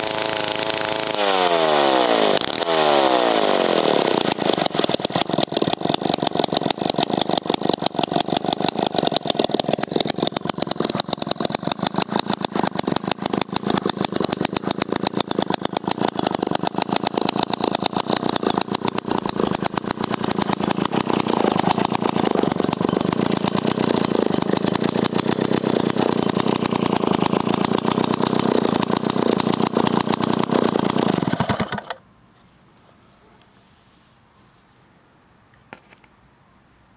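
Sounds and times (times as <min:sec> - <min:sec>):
chainsaw engine idling: 0:00.0 - 0:32.0.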